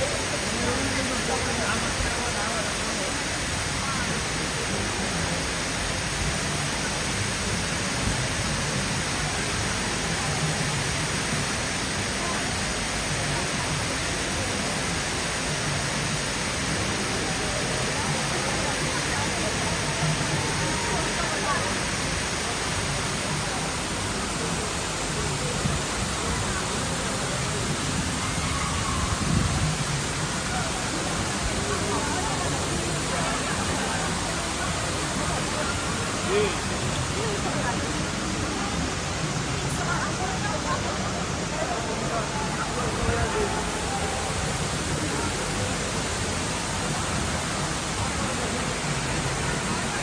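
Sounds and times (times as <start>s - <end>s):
indoor waterfall rushing: 0.0s - 50.0s.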